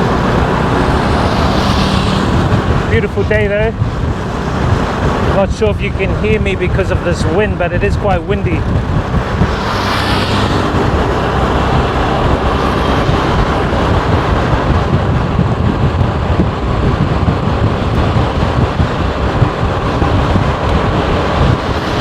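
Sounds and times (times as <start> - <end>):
motorbike road noise: 0.0 - 22.0
wind buffeting microphone: 0.0 - 22.0.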